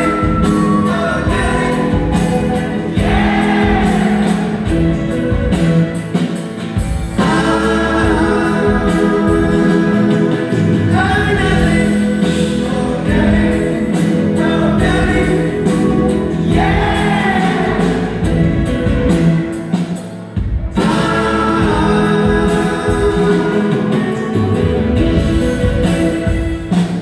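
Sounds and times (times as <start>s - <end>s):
man singing lead vocals: 0.0s - 5.0s, 7.1s - 18.8s, 20.8s - 25.8s
acoustic guitars: 0.0s - 27.0s
drums: 0.0s - 27.0s
harmony voices: 0.0s - 27.0s
keyboards: 0.0s - 27.0s.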